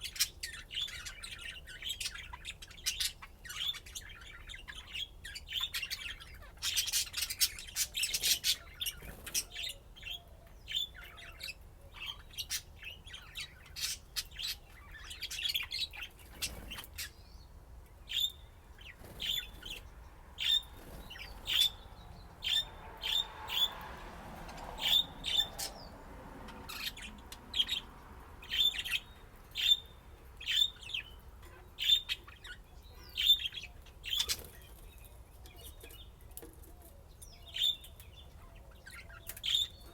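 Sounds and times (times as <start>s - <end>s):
budgerigars chirping: 0.0s - 17.4s, 18.1s - 23.8s, 24.7s - 36.1s, 37.3s - 39.9s.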